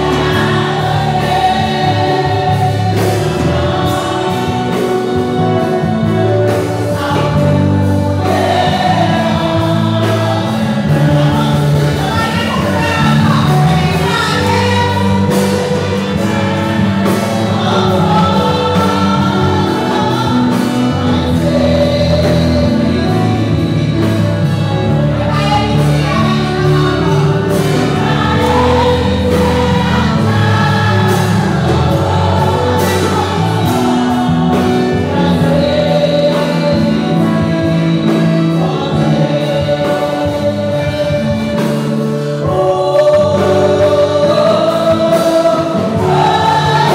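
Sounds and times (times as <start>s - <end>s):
congregation singing a hymn: 0.0s - 46.9s.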